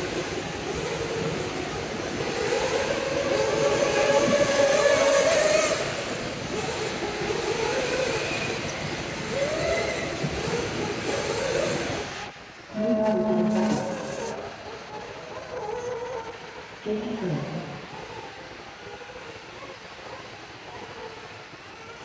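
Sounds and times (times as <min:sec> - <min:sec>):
rc buggy motors whining: 0:00.0 - 0:16.7, 0:17.8 - 0:22.0.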